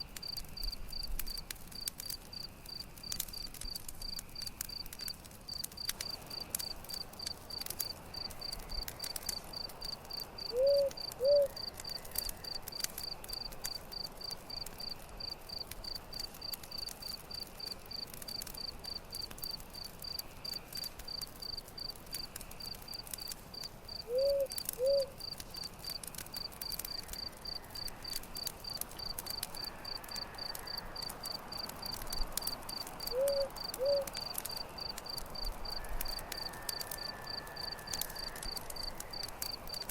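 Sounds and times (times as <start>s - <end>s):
crickets chirping: 0.0s - 4.9s, 5.5s - 17.6s, 18.3s - 39.9s
campfire crackling and popping: 0.0s - 39.9s.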